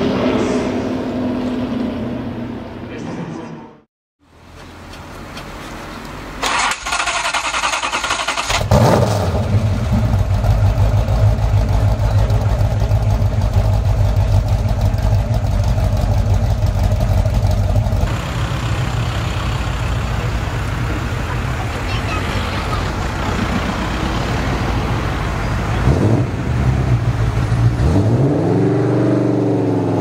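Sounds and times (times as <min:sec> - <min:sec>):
car engine starting and running: 0:00.0 - 0:30.0.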